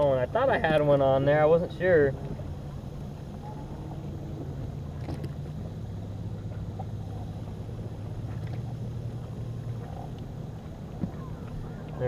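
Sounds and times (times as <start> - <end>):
boat motor hum: 0.0 - 12.0.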